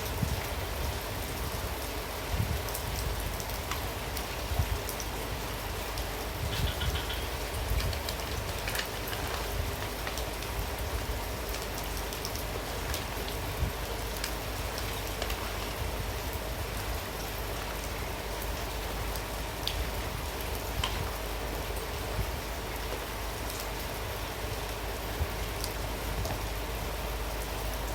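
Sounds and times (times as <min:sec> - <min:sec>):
heavy rain falling: 0:00.0 - 0:27.9
sharp raindrop ticks: 0:00.0 - 0:27.9.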